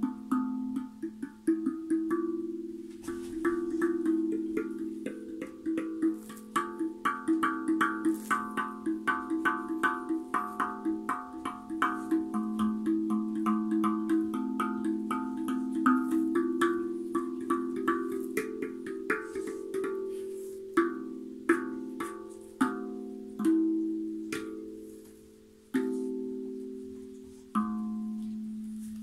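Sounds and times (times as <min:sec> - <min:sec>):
steel drum melody: 0:00.0 - 0:29.0.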